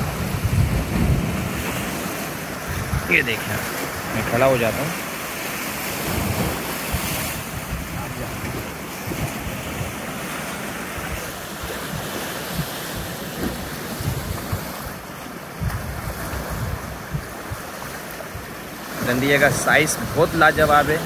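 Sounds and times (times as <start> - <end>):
waves splashing against seawall: 0.0 - 21.0
wind gusting on microphone: 0.0 - 21.0.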